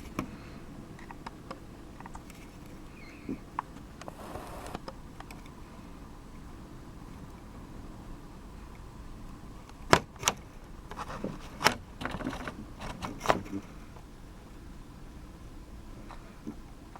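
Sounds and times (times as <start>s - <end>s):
faint low background noise: 0.0s - 16.9s.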